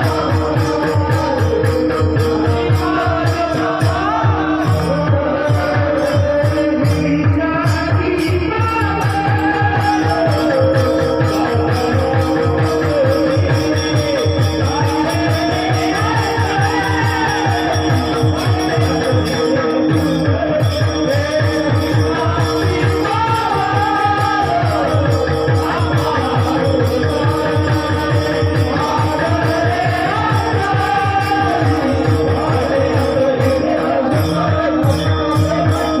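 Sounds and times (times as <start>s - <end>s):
jingling percussion: 0.0s - 36.0s.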